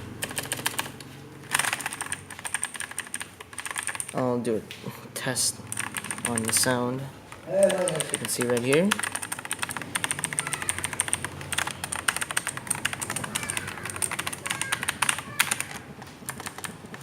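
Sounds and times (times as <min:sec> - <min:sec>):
clicky keyboard typing: 0:00.2 - 0:04.2, 0:05.7 - 0:17.0.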